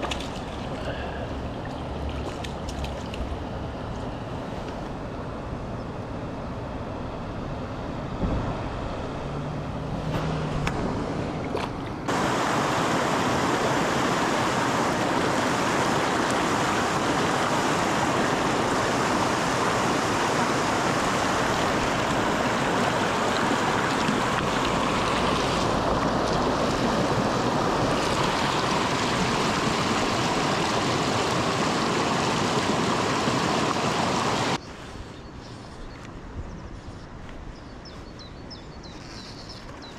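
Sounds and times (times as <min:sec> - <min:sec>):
stream water rushing: 0:00.0 - 0:05.5, 0:07.2 - 0:34.6.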